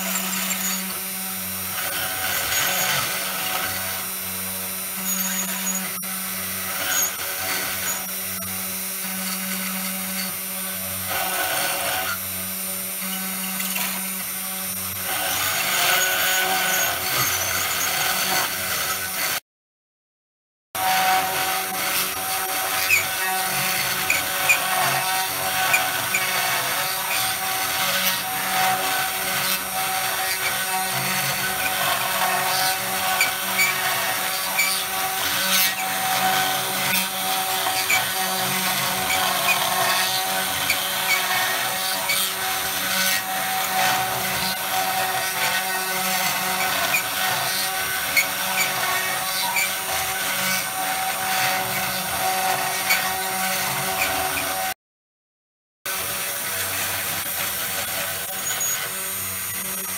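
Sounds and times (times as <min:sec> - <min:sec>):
router spindle whine: 0:00.0 - 0:19.4, 0:20.8 - 0:54.8, 0:55.9 - 0:59.9.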